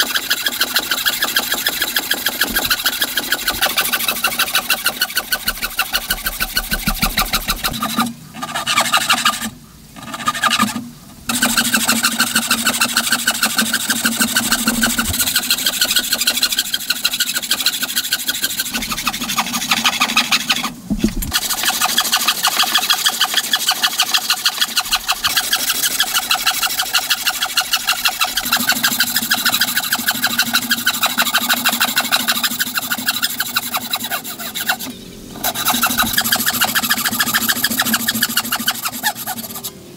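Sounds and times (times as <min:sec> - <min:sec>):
hand saw cutting timber: 0:00.0 - 0:39.8.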